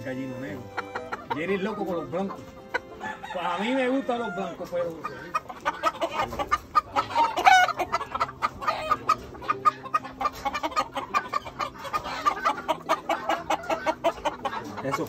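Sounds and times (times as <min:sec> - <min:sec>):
roosters clucking: 0:00.0 - 0:15.0.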